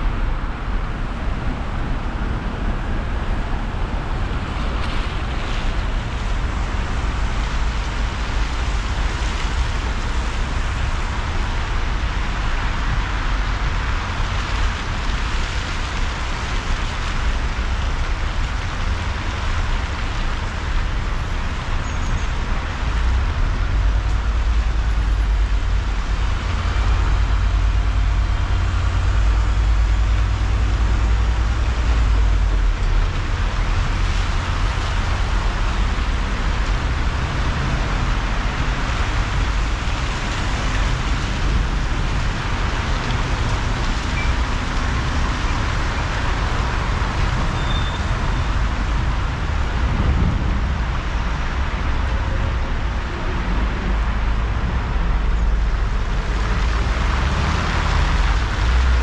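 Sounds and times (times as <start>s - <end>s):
road and engine rumble: 0.0s - 59.0s
tyres hissing on wet road: 0.2s - 59.0s.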